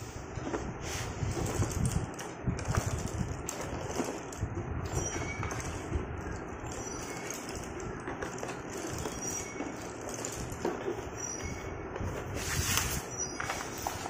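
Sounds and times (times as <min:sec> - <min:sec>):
slate pencils clattering: 0:00.4 - 0:14.0.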